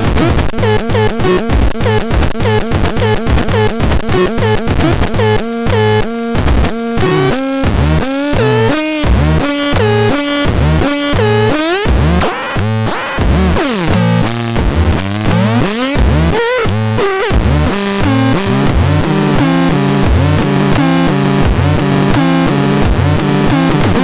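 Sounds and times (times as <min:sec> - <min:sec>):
chopped bass line: 0:00.0 - 0:24.0
experimental synthesizer music: 0:00.0 - 0:24.0.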